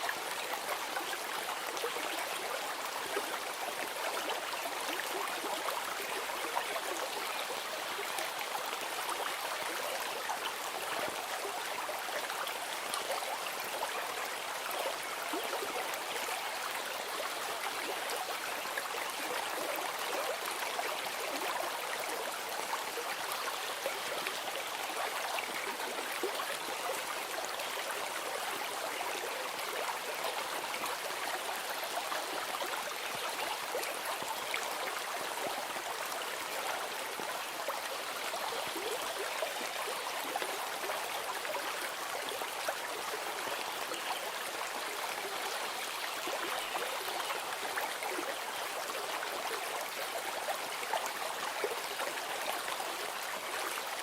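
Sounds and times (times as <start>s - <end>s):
stream water rushing and trickling: 0.0s - 54.0s.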